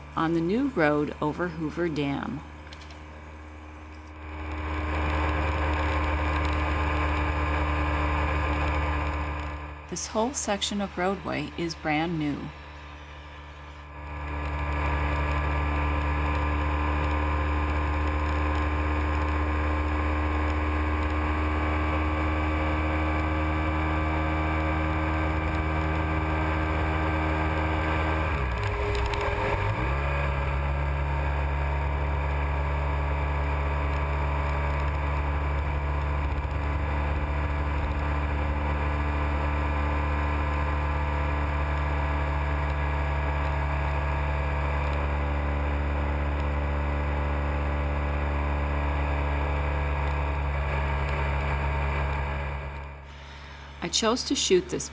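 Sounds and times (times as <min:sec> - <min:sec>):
motorcycle engine running: 0:00.0 - 0:53.8.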